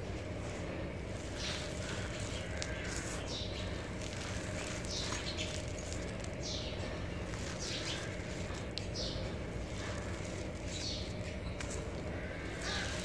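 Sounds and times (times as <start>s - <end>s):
low background hum: 0.0s - 13.0s
soil trickling onto dirt: 0.1s - 13.0s.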